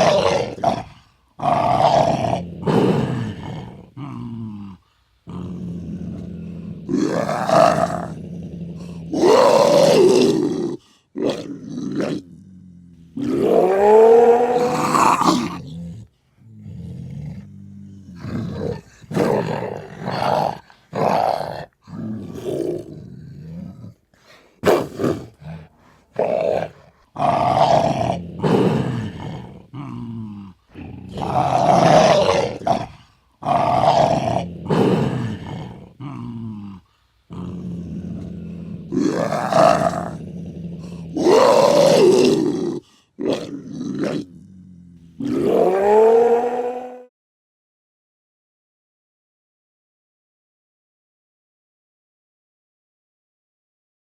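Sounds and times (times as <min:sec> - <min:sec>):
leopard growling and roaring: 0:00.0 - 0:47.1.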